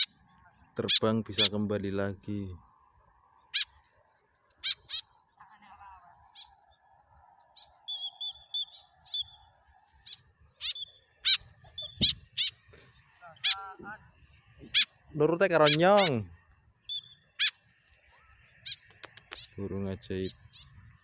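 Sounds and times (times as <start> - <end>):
bird chatter: 0.0 - 21.0
bird chirping: 0.0 - 21.0.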